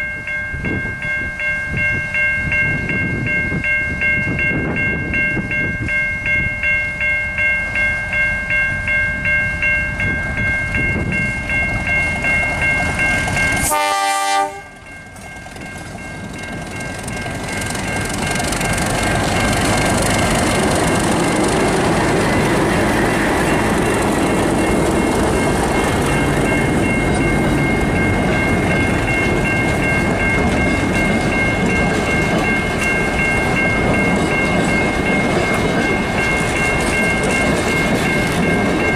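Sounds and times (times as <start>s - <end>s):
level crossing bells ringing: 0.0s - 38.9s
train passing on rails: 0.0s - 38.9s.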